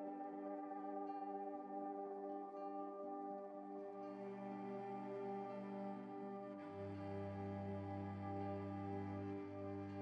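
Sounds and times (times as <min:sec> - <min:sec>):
calm ambient music: 0:00.0 - 0:10.0.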